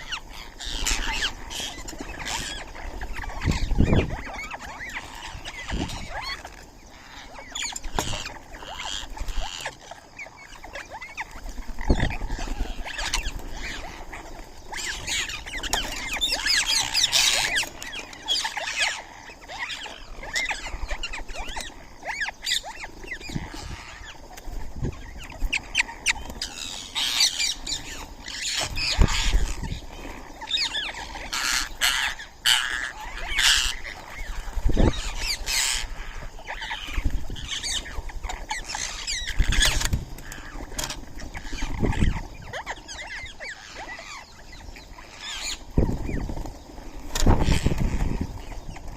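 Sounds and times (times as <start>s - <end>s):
birds chirping and squawking: 0.0s - 48.9s.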